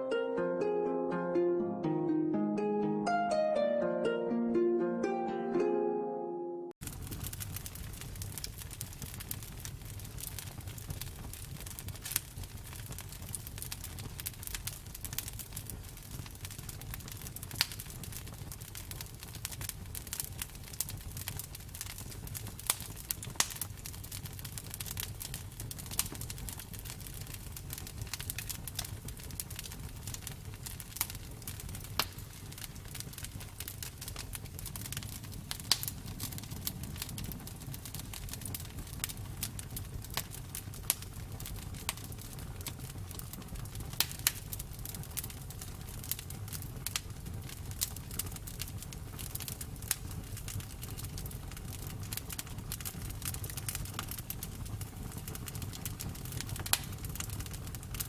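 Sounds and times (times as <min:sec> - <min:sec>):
campfire crackling and popping: 0:06.8 - 0:58.0.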